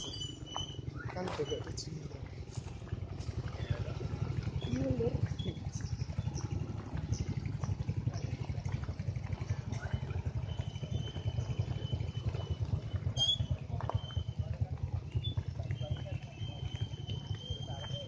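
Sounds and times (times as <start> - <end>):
motorcycle engine low rumble: 0.0 - 18.0.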